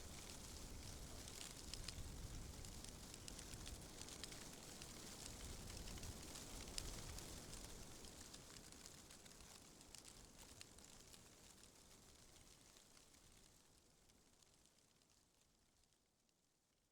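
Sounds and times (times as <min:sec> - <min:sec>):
soft high crackles and ticks: 0:00.0 - 0:16.9.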